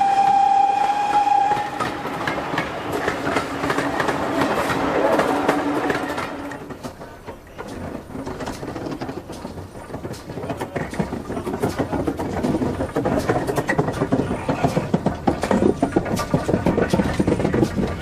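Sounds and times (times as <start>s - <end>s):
train rumbling: 0.0s - 18.0s
wheels clicking and carriage rattling: 0.0s - 18.0s
faint voices: 2.4s - 9.3s, 9.9s - 18.0s.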